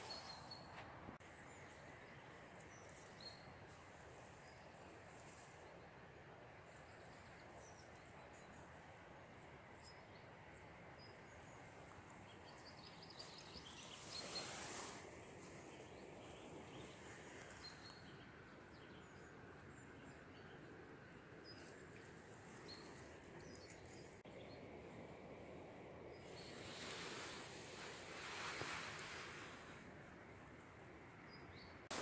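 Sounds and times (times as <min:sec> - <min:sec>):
outdoor ambience: 0:00.0 - 0:32.0.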